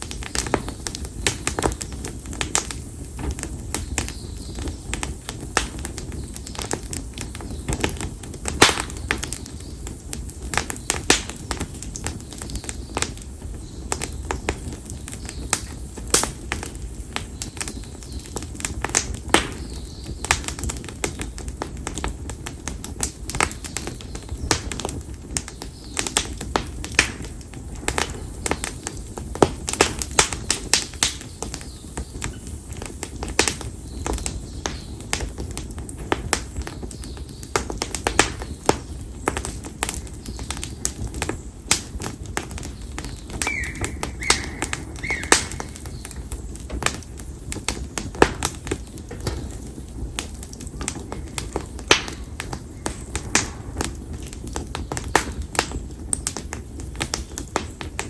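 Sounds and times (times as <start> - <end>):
bonfire crackling and popping: 0.0 - 58.0
low rumble of flames: 0.0 - 58.0.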